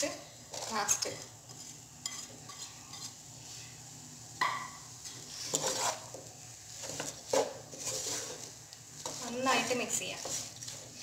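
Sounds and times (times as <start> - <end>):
faint frying sizzle: 0.0 - 11.0
wooden spoon scraping a pot: 0.4 - 3.8, 5.0 - 11.0.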